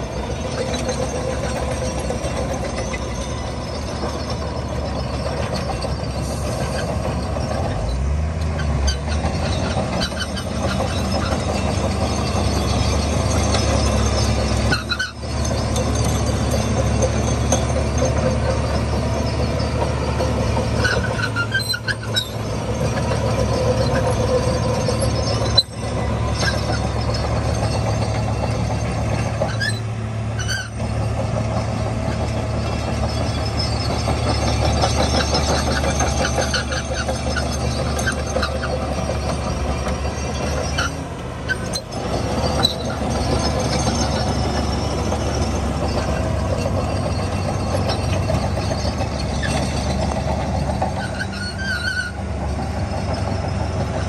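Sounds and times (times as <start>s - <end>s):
bulldozer diesel engine running: 0.0s - 54.0s
high squeals from tracks: 0.0s - 54.0s.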